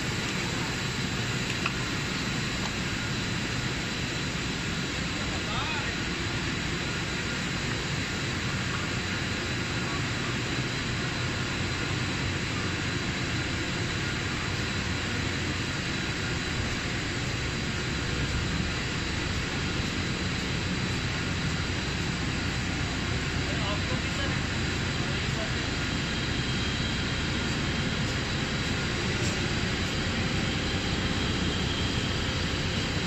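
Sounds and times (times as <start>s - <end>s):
extrusion line machinery drone: 0.0s - 33.0s
faint high whine: 0.0s - 33.0s.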